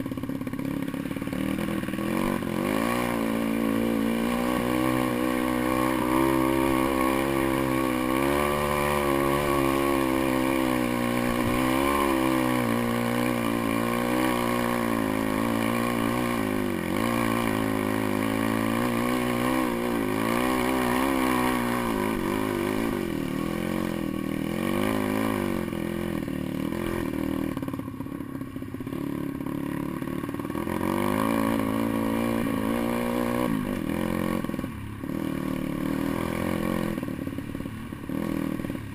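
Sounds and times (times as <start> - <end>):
pit bike engine revving: 0.0 - 27.8, 28.9 - 38.9.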